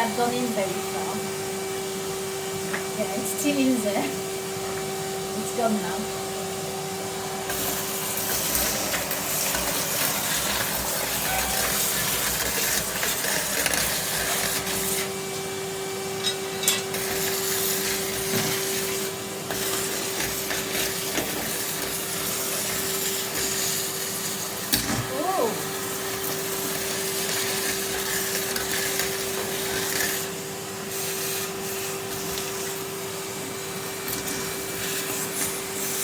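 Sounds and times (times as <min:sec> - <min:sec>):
vacuum cleaner motor hum: 0:00.0 - 0:36.0.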